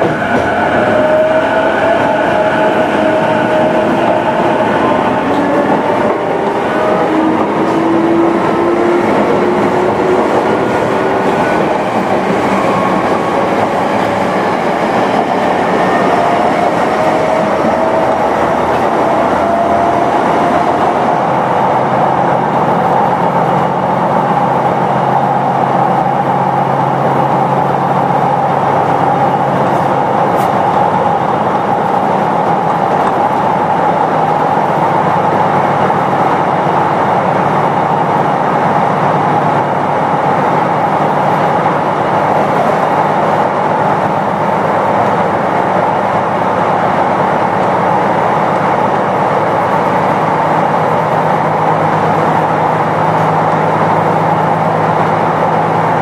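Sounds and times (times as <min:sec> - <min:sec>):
wheel and rail noise: 0:00.0 - 0:56.0.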